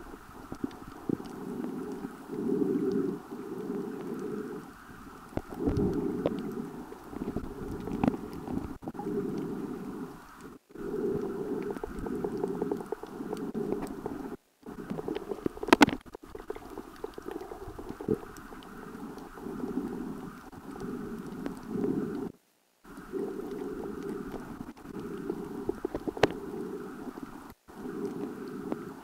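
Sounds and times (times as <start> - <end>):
faint clicks: 0.0 - 29.0
underwater rumble of moving water: 0.0 - 29.0.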